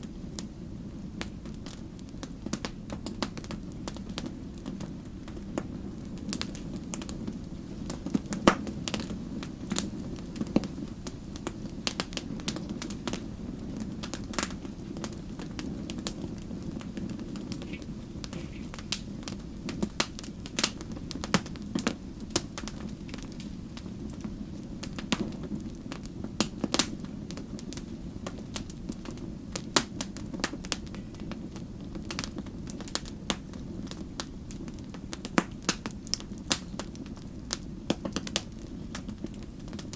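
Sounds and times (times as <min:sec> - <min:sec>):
burning wood crackling: 0:00.0 - 0:39.9
campfire flames rumbling: 0:00.0 - 0:39.9.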